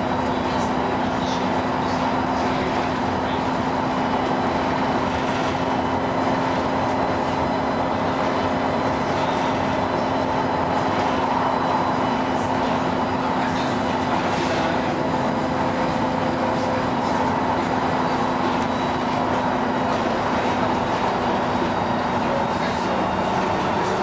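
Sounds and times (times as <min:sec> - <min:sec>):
bus engine and road noise: 0:00.0 - 0:24.0.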